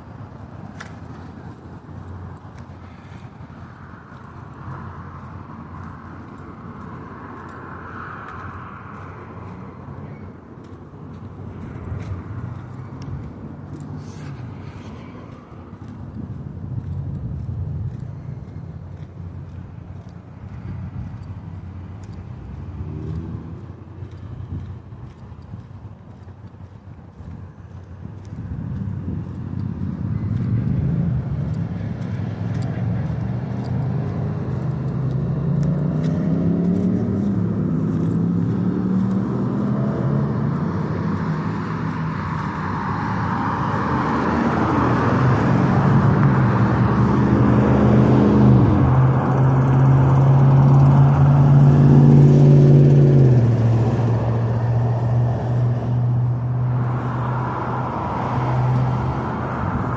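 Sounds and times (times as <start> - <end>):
vehicle engine running: 8.3 - 57.9.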